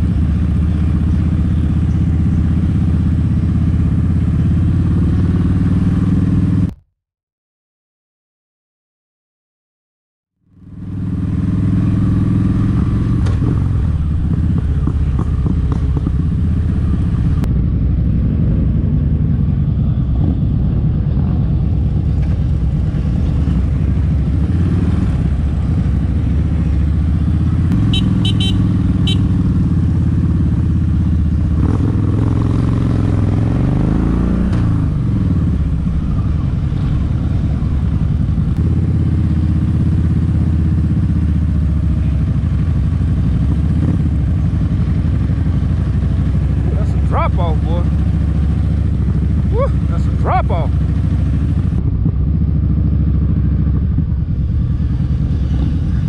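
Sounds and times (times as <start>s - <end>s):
motorcycle engine running: 0.0s - 6.8s, 10.4s - 56.0s.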